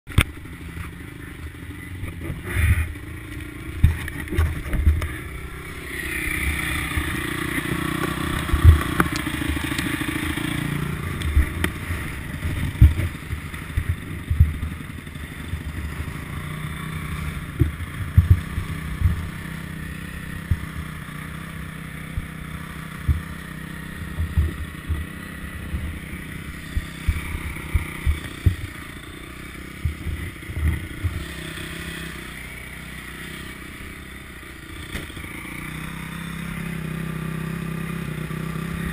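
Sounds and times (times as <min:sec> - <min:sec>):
motorbike engines running: 0:00.1 - 0:38.9.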